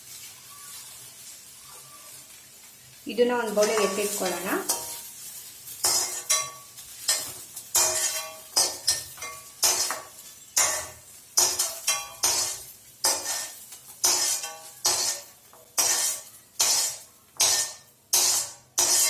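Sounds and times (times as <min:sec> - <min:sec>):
metal spoon scraping a pan: 0:03.4 - 0:19.0.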